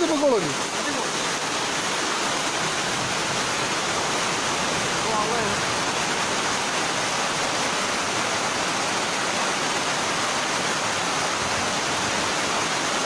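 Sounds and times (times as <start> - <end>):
floodwater rushing and splashing: 0.0 - 13.0.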